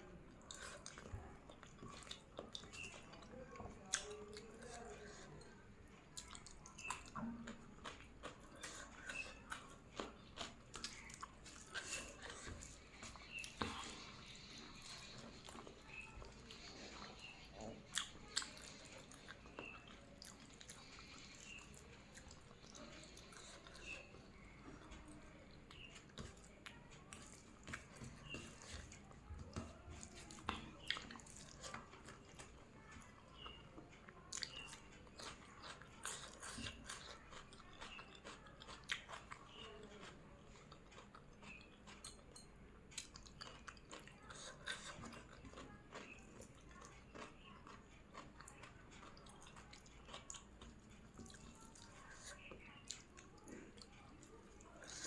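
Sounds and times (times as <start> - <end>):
person chewing food: 0.3 - 55.0.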